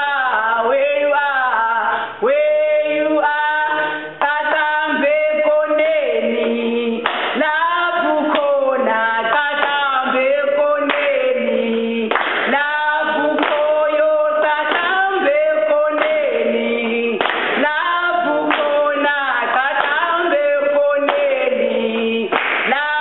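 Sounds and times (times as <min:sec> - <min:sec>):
two women singing together: 0:00.0 - 0:23.0.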